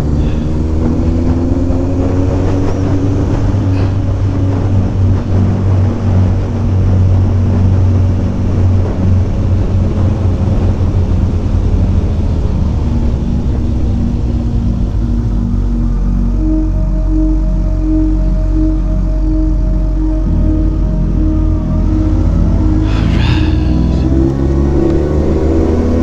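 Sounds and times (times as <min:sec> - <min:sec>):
wind noise: 0:00.0 - 0:26.0.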